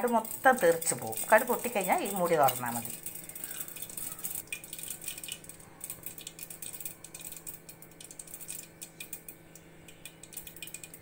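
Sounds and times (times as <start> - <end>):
mustard seeds popping in oil: 0.0 - 11.0.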